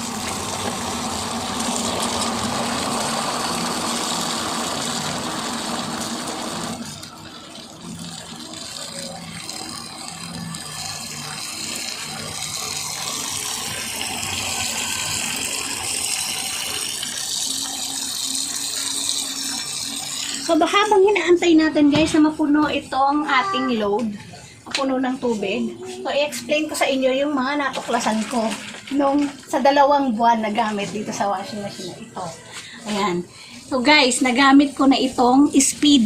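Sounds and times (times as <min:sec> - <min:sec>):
water rushing into washing machine: 0:00.0 - 0:23.3, 0:24.8 - 0:36.0.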